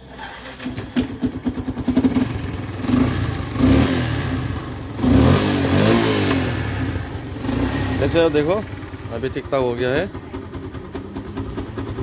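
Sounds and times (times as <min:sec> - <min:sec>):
motorcycle engine revving: 0:00.3 - 0:12.0.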